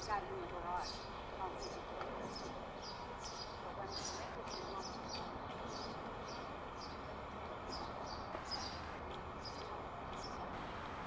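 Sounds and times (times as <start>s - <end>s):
small bird chirping: 0.8s - 10.4s.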